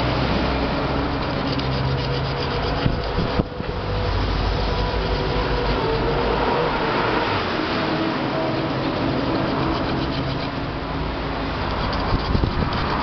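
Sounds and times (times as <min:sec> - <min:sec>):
sandpaper scraping metal: 0:00.6 - 0:13.0.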